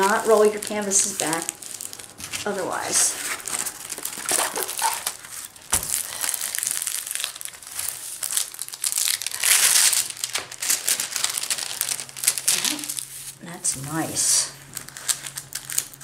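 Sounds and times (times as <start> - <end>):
plastic film crinkling: 0.0 - 16.0.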